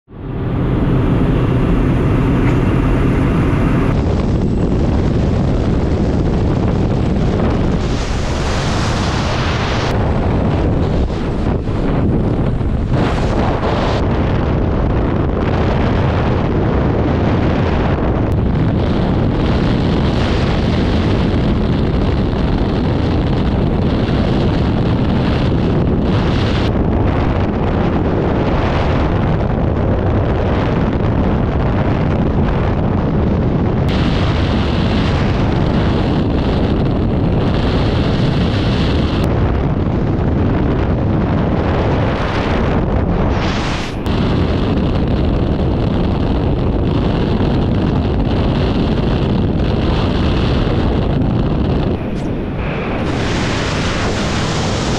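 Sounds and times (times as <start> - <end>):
freefall wind buffeting microphone: 0.0 - 54.9.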